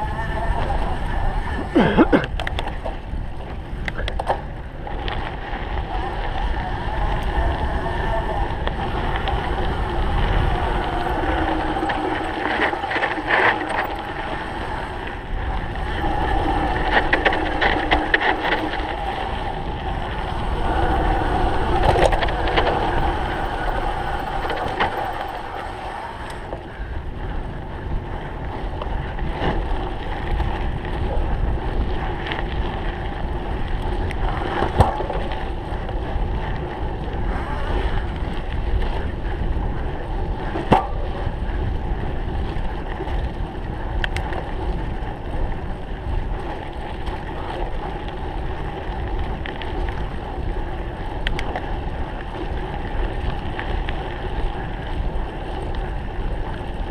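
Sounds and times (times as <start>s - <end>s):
bike rattling and knocking: 0.0s - 56.9s
bike tyres rumbling: 0.0s - 56.9s
wind rushing over microphone: 0.0s - 56.9s.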